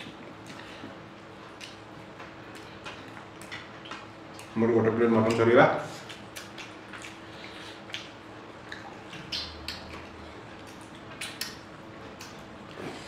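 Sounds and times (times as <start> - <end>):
wet chewing and mouth smacks: 0.0 - 4.6, 5.2 - 13.0.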